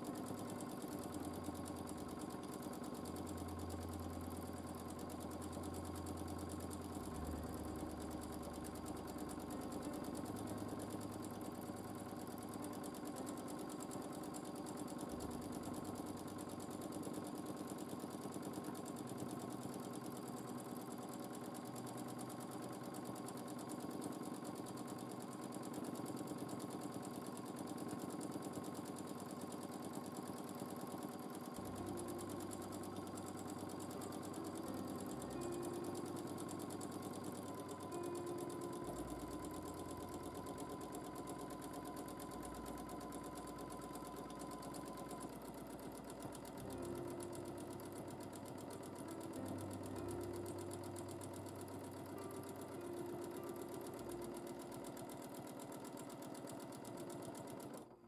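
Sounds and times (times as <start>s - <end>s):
sewing machine stitching: 0.0s - 58.0s.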